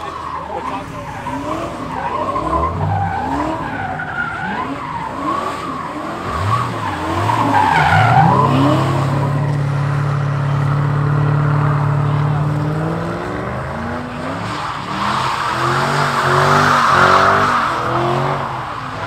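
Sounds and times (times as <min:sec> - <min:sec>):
car engine revving: 0:00.0 - 0:19.0
tires squealing: 0:00.0 - 0:19.0.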